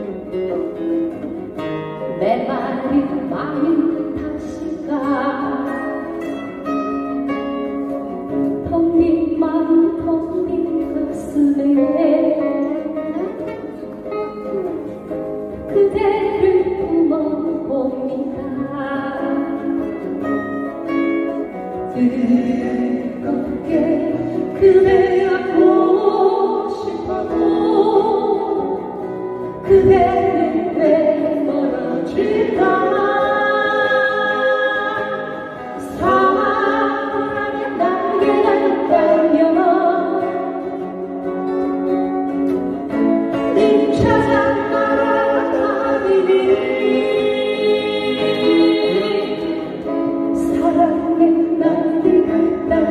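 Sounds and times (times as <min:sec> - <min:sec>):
strummed acoustic guitars: 0:00.0 - 0:52.9
woman singing: 0:02.0 - 0:20.7, 0:21.4 - 0:41.2, 0:42.9 - 0:52.9.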